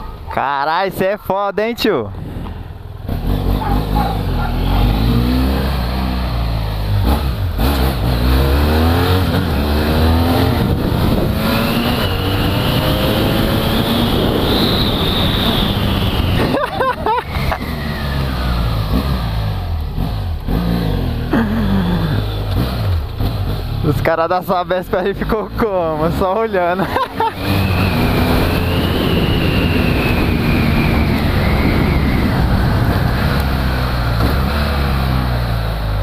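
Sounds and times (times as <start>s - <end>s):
motorcycle engine accelerating through gears: 2.1s - 36.0s.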